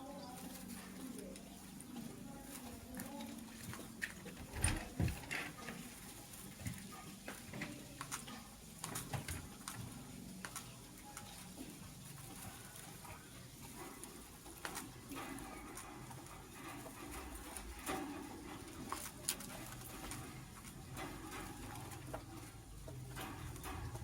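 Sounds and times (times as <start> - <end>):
bird moving about cage: 0.2 - 24.0.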